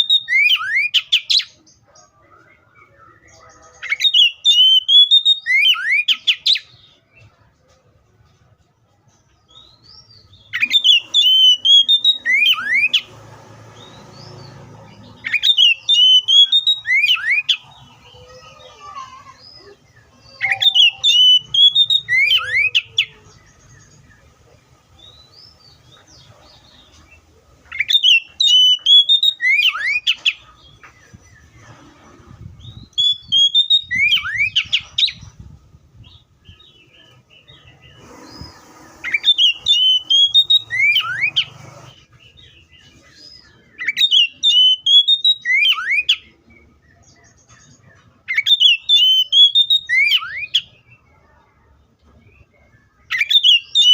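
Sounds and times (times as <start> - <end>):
bird whistled song: 0.0 - 7.0, 9.5 - 13.1, 13.8 - 18.0, 19.5 - 24.2, 25.0 - 31.8, 32.4 - 51.1, 52.8 - 53.9.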